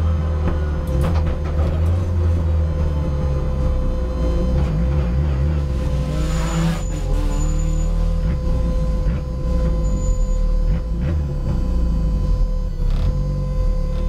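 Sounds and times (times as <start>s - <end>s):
race car engine low drone: 0.0s - 14.0s.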